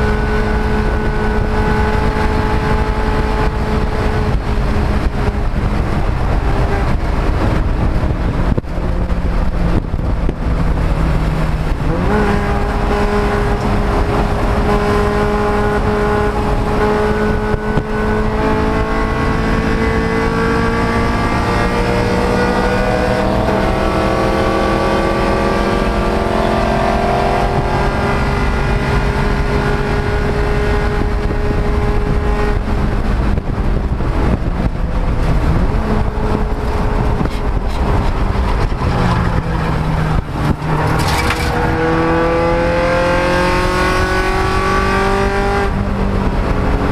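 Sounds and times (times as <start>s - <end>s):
race car engine revving: 0.0s - 46.9s
road and wind noise: 0.0s - 46.9s.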